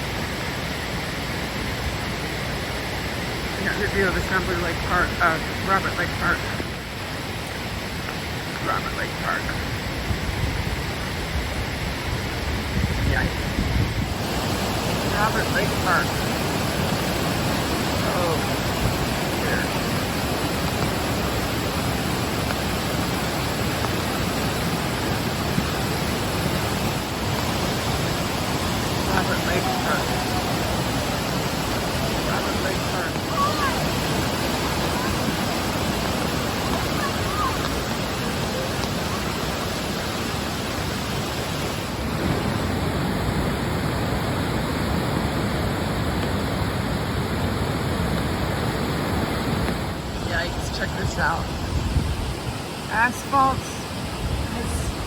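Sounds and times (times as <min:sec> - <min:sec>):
floodwater rushing in creek: 0:00.0 - 0:55.0.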